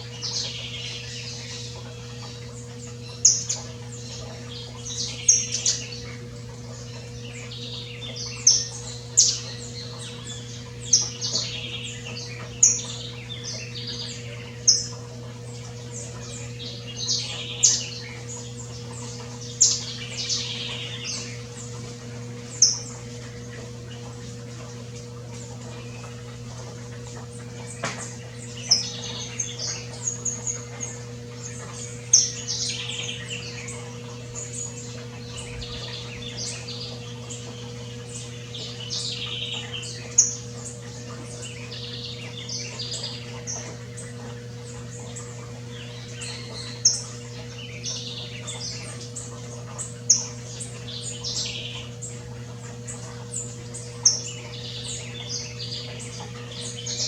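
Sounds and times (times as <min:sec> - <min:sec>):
finch singing: 0:00.0 - 0:57.0.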